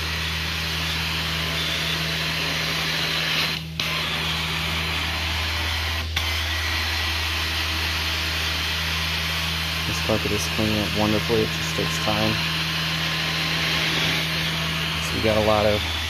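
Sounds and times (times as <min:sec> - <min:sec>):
carpet extractor suction rush: 0:00.0 - 0:16.0.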